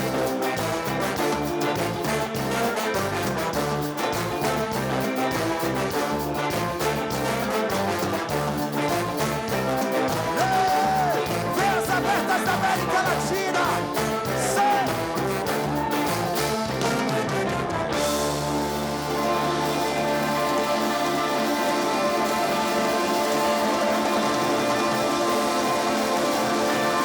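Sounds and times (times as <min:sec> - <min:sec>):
band music with steady beat: 0:00.0 - 0:27.0.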